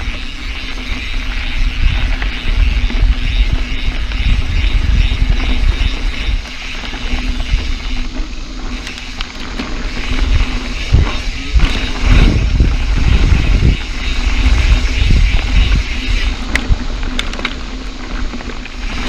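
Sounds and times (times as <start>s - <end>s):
bike tyres rumbling on dirt: 0.0s - 19.0s
wind on microphone: 0.0s - 19.0s.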